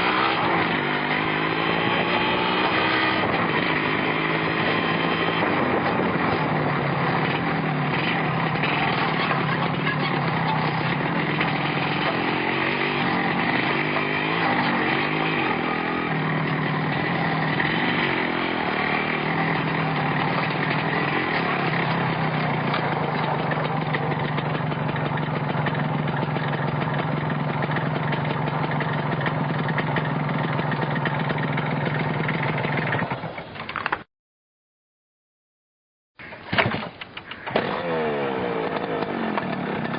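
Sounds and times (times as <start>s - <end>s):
motorcycle engine running: 0.0s - 33.4s, 37.5s - 39.9s.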